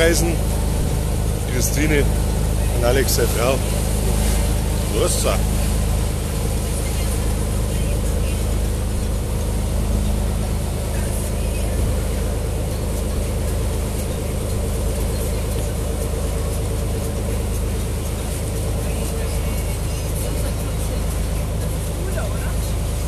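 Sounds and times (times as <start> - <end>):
motorboat engine drone: 0.0 - 23.0.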